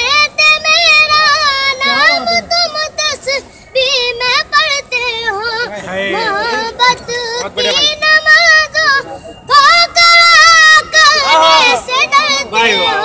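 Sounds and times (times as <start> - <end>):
boy singing: 0.0 - 13.0.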